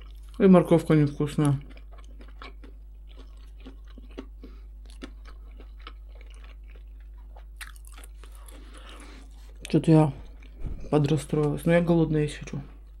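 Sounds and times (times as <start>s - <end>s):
low hum: 2.1s - 13.0s.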